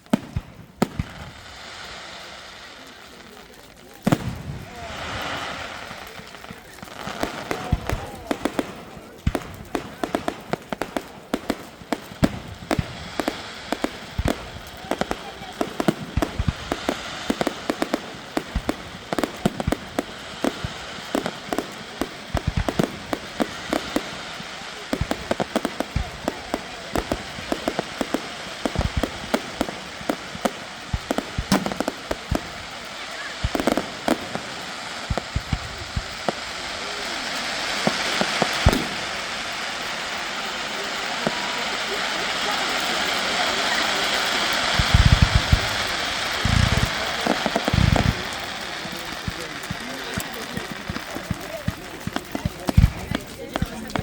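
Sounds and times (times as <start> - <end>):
fireworks bangs and cracks: 0.0 - 54.0
heavy firework booms: 0.0 - 54.0
steady hiss: 0.0 - 54.0.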